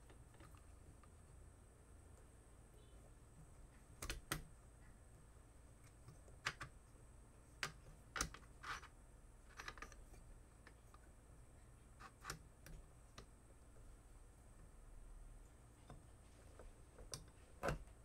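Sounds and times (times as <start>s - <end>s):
faint clicks of plastic parts: 0.0s - 1.4s, 3.0s - 18.0s.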